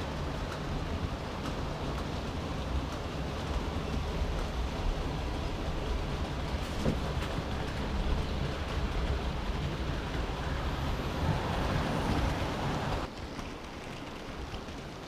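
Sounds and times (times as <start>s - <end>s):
model train wheels rumbling: 0.0s - 15.0s.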